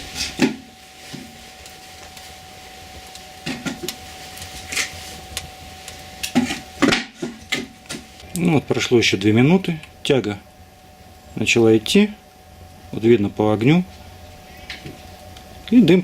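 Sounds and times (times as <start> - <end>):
firewood crackling: 0.0 - 16.0.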